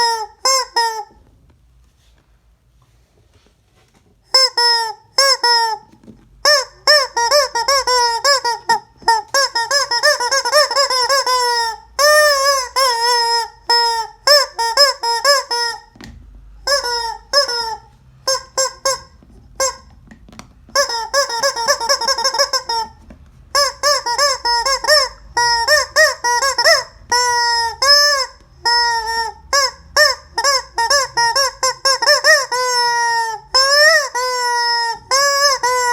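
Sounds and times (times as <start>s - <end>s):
rubber squeeze-toy squawking: 0.0s - 1.3s, 4.2s - 16.0s, 16.6s - 35.9s.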